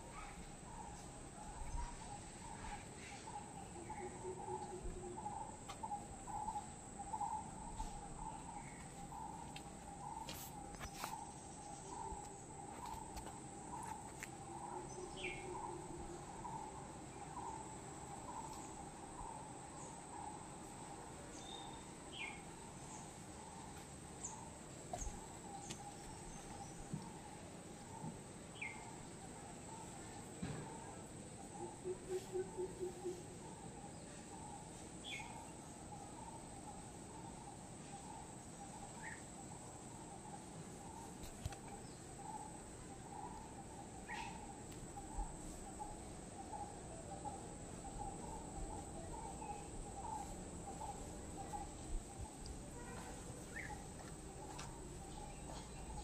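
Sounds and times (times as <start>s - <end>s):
faint high steady whine: 0.0s - 56.0s
insects chirping: 0.0s - 56.0s.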